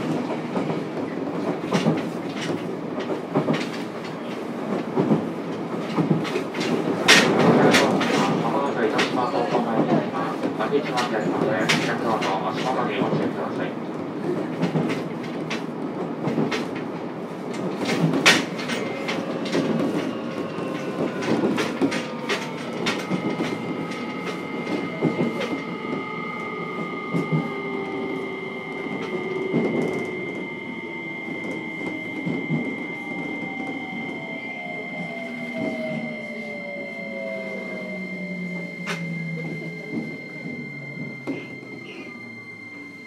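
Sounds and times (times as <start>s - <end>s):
train rumble: 0.0s - 43.0s.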